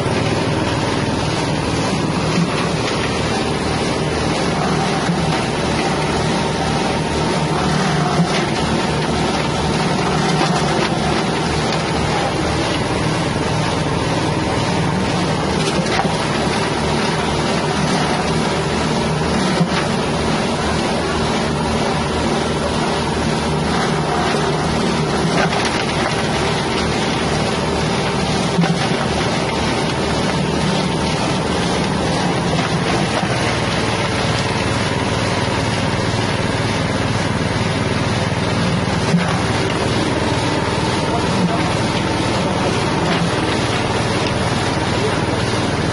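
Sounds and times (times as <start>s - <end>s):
engine-driven grinder running: 0.0s - 45.9s.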